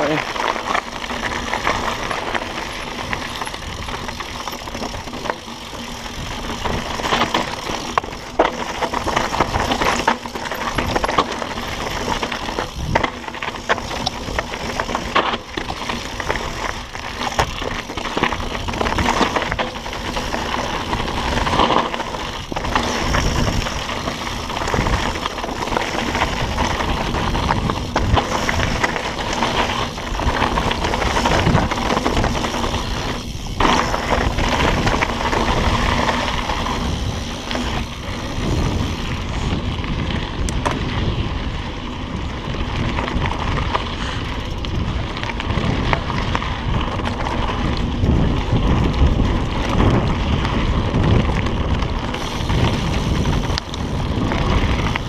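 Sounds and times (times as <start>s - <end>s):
bike rattling over rocks: 0.0s - 55.0s
tyres grinding over gravel: 0.0s - 55.0s.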